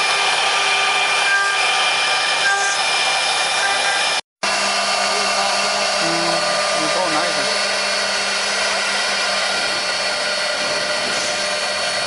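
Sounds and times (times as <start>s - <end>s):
wood router whining and cutting: 0.0s - 12.0s.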